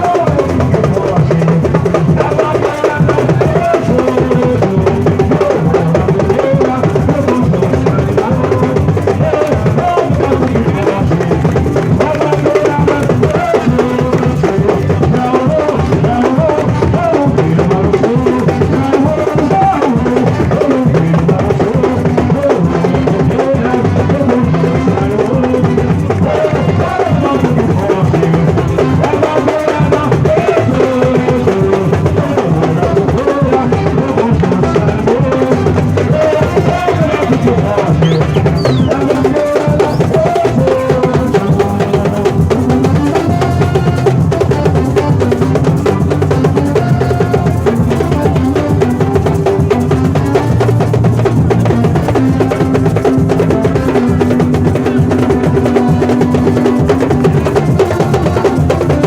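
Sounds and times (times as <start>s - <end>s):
percussion ensemble drumming: 0.0s - 59.0s.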